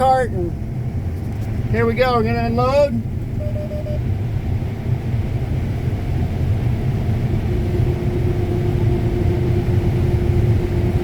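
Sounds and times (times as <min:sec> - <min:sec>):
combine harvester rumbling: 0:00.0 - 0:11.0.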